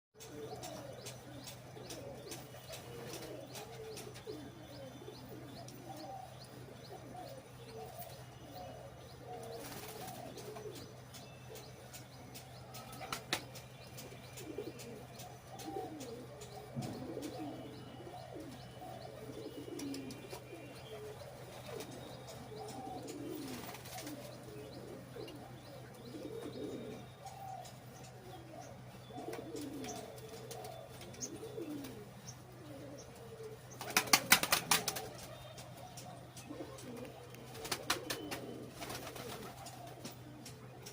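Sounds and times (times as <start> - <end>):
pigeons cooing: 0.2 - 40.9.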